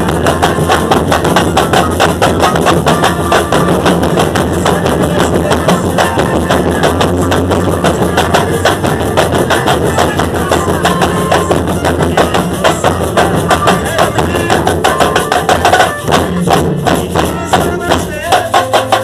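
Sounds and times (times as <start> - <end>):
percussion ensemble drumming: 0.0 - 19.0.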